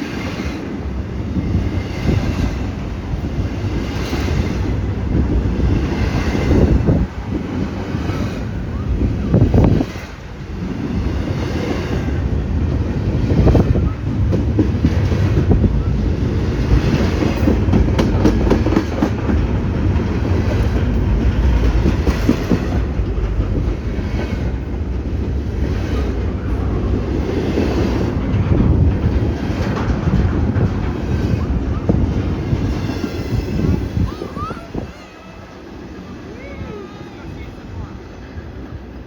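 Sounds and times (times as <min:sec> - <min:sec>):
freight train rumbling past: 0:00.0 - 0:39.0
train wheels clacking: 0:00.0 - 0:39.0
wind buffeting microphone: 0:00.0 - 0:39.0.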